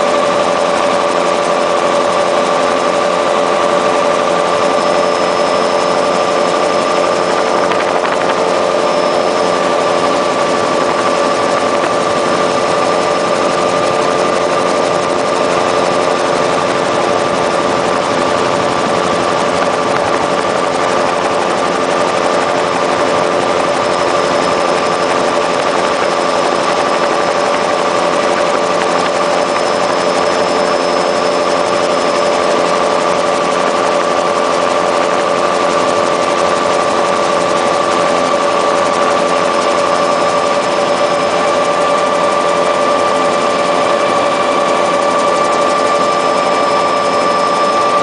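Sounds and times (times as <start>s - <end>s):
helicopter turbine and rotor: 0.0s - 48.0s.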